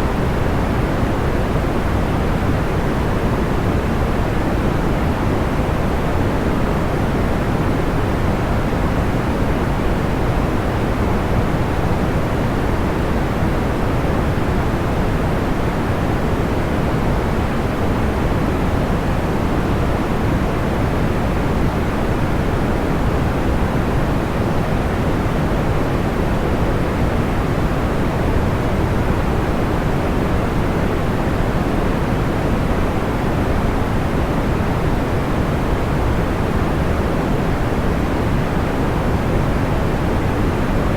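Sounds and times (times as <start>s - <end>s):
low white noise hiss: 0.0s - 40.9s.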